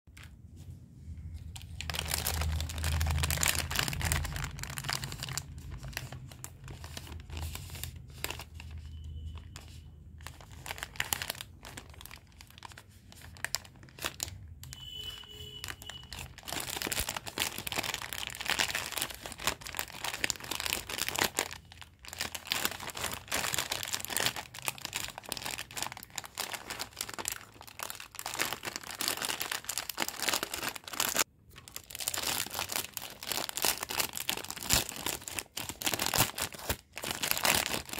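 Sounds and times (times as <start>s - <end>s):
plastic wrappers rustling: 1.2s - 37.9s
wrapper tearing: 1.5s - 14.8s, 15.6s - 37.9s.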